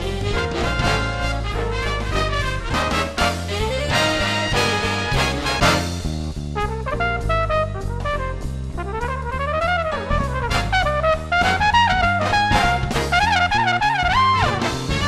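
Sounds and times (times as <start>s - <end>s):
jazz with trumpet and trombone: 0.0s - 15.0s.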